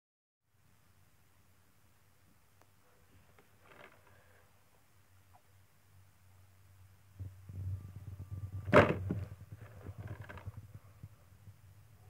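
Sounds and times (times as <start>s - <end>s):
low steady hum: 0.5s - 12.0s.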